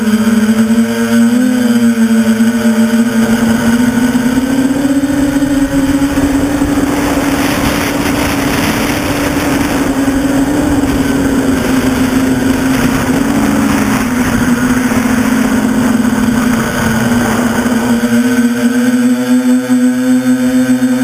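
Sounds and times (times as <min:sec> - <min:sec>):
drone motors humming: 0:00.0 - 0:21.0
rushing wind: 0:00.0 - 0:21.0.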